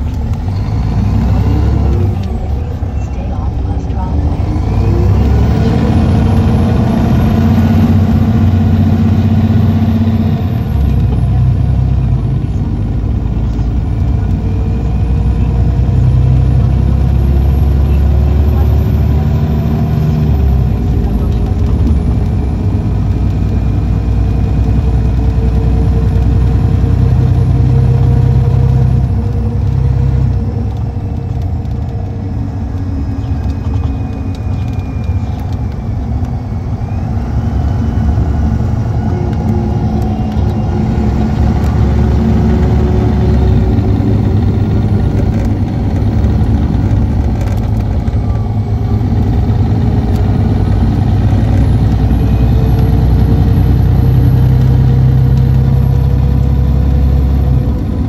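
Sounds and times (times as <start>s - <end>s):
diesel bus engine droning: 0.0s - 58.0s.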